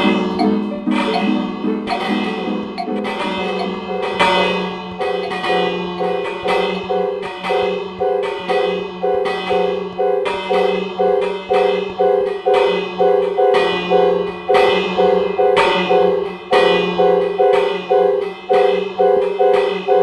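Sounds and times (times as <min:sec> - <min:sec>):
fire alarm bell strikes: 0:00.0 - 0:20.0
pulsing alarm tones: 0:00.0 - 0:20.0.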